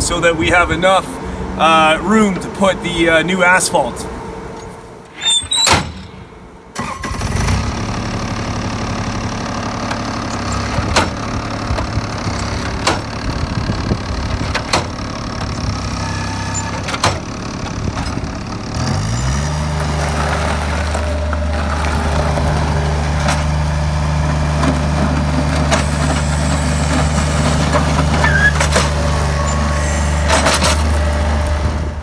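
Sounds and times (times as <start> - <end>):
loader engine running: 0.0 - 32.0.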